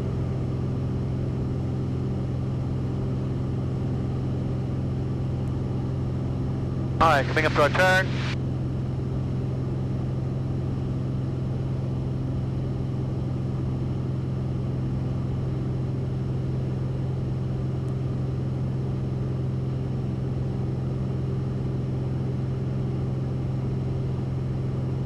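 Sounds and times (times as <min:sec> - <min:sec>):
propeller airplane engine droning: 0:00.0 - 0:25.0.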